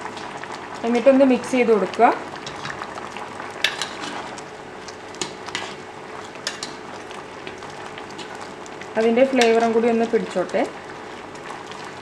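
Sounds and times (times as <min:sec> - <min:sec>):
curry bubbling and hissing: 0:00.0 - 0:12.0.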